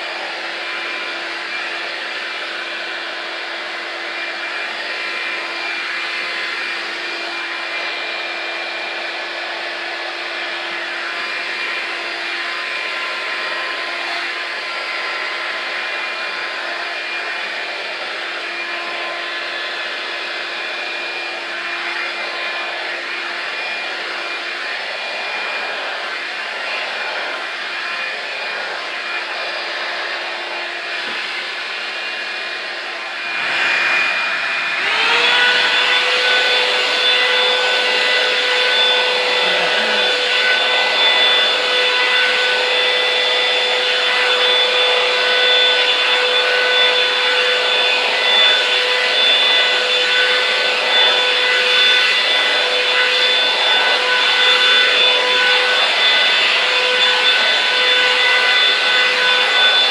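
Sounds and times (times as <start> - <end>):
hot-air brush dryer whining: 0.0 - 59.9.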